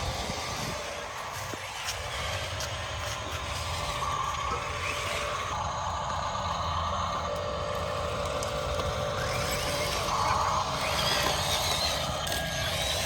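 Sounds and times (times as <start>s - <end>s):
toy machines whining: 0.0s - 13.0s.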